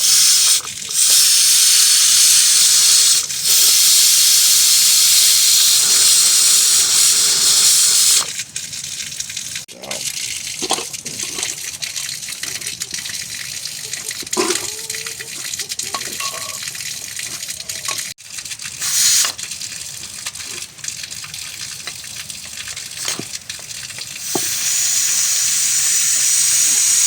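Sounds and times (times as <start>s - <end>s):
water gushing and splashing: 0.0s - 27.0s.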